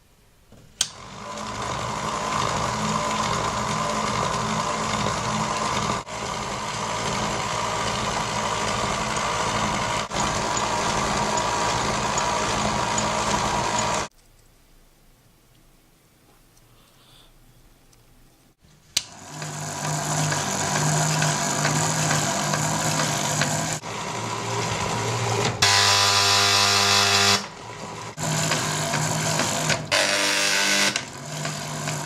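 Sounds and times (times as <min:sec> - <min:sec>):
electric motor humming: 0:00.9 - 0:14.1, 0:19.0 - 0:32.0.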